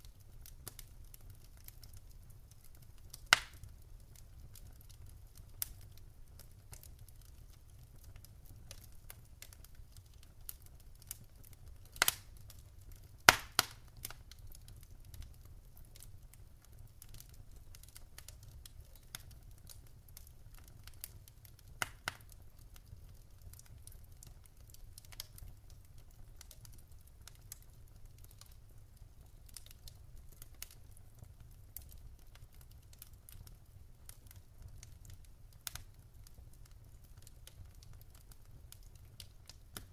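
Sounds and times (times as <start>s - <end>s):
faint scattered clicks and crackles: 0.0s - 39.9s.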